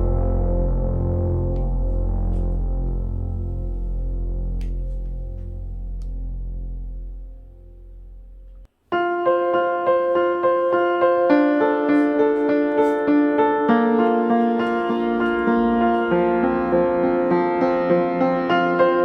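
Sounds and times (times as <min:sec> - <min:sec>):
piano sustained notes: 0:00.0 - 0:19.0.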